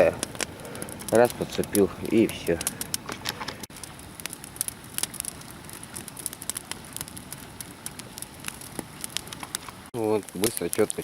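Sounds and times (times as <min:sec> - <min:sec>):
campfire crackling and popping: 0:00.0 - 0:11.0
faint steady hiss: 0:00.0 - 0:11.0.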